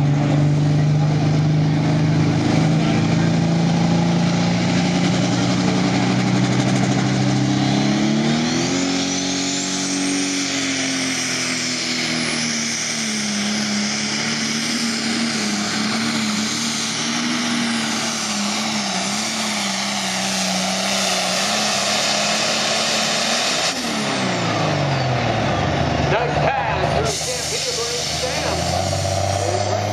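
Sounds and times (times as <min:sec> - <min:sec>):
diesel engine running flat out: 0:00.0 - 0:29.9.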